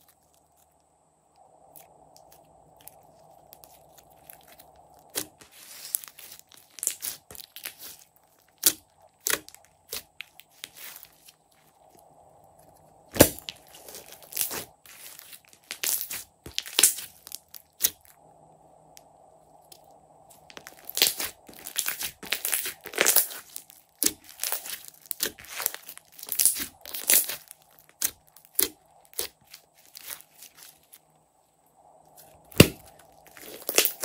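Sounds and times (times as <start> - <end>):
slime crackling and popping: 1.7 - 12.0, 12.6 - 18.2, 19.7 - 31.0, 32.2 - 34.0.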